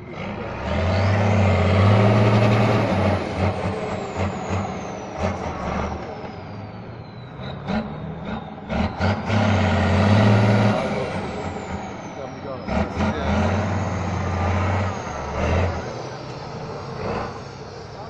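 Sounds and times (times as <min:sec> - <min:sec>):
diesel engine revving hard: 0:00.0 - 0:18.0.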